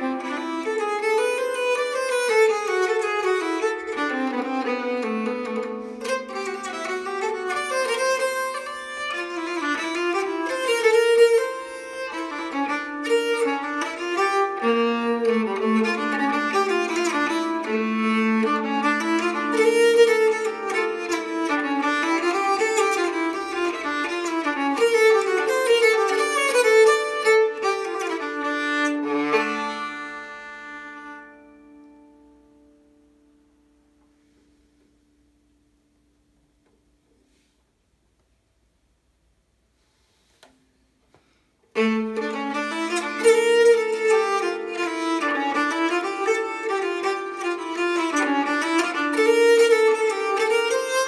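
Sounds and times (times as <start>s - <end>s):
bowed string instrument dance tune: 0.0s - 32.9s, 41.7s - 51.0s.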